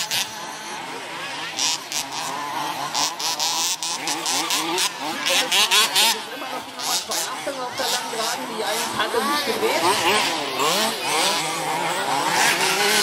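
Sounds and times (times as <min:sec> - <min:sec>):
toy car motors whining: 0:00.0 - 0:13.0.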